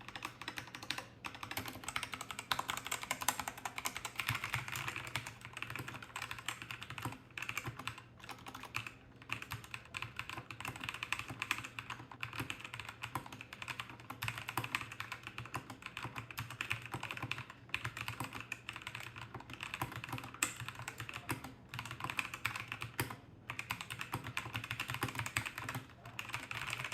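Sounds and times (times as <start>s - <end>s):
mechanical keyboard typing: 0.0s - 26.9s.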